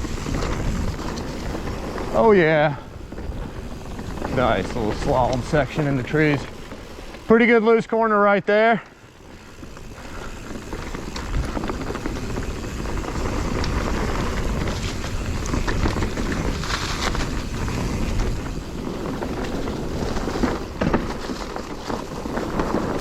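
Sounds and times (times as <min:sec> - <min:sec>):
wind rush on microphone: 0:00.0 - 0:07.2, 0:09.2 - 0:23.0
bike knocks and rattles: 0:00.0 - 0:07.3, 0:08.9 - 0:23.0
bike tyres on loose dirt: 0:00.0 - 0:23.0.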